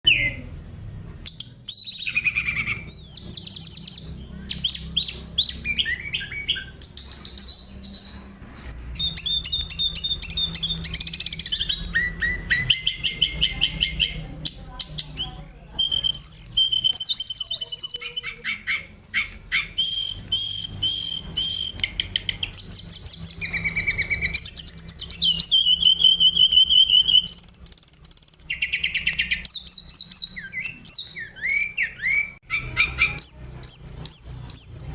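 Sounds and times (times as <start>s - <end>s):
bird singing: 0.0s - 0.6s, 1.2s - 34.9s.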